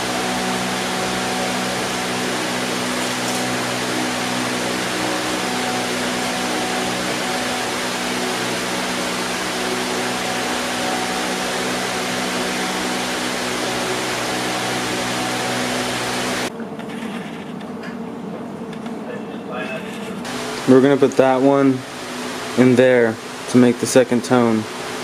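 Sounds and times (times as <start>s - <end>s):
air compressor running: 0.0s - 16.5s, 20.2s - 25.0s.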